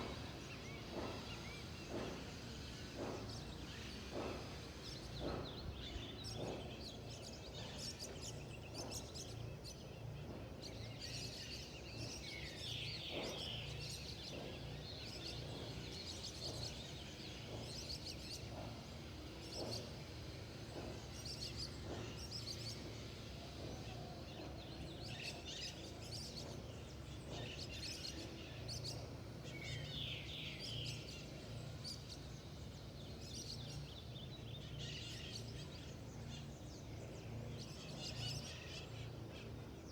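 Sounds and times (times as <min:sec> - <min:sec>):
birds chirping and calling: 0:00.0 - 0:39.8.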